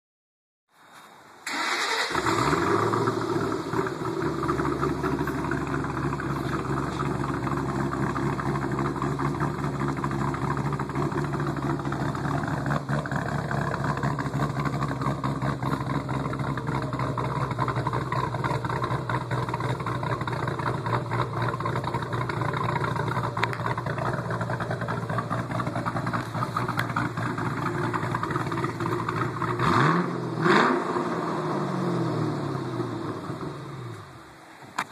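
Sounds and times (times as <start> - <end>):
car engine starting and idling: 1.4 - 34.9.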